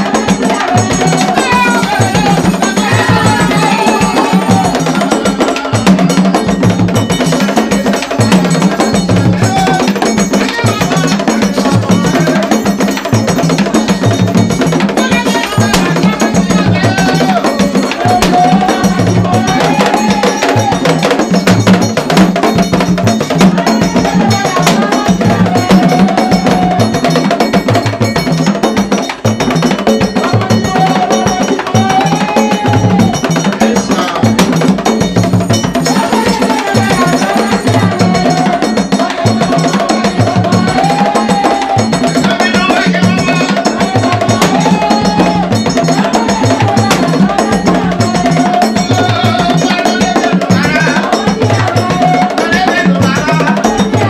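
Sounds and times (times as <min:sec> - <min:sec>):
women singing: 0:00.0 - 0:28.1, 0:29.9 - 0:54.0
hand drums fast rhythm: 0:00.0 - 0:54.0.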